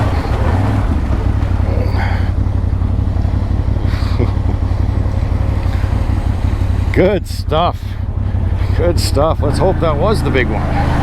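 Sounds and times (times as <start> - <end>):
vehicle engine running under load: 0.0 - 11.0.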